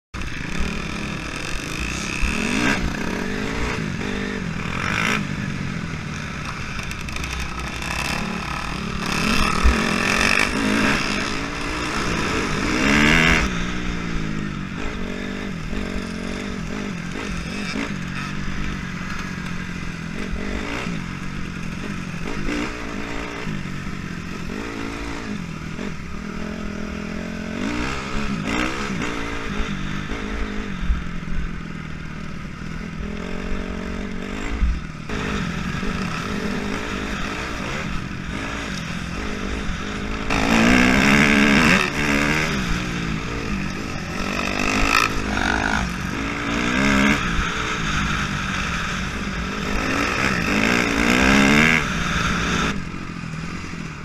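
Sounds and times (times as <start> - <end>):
dirt bike engine revving: 0.2 - 54.0.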